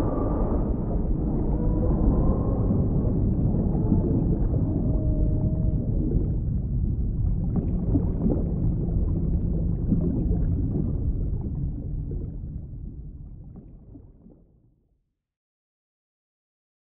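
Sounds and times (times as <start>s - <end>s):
low underwater rumble: 0.0s - 14.8s.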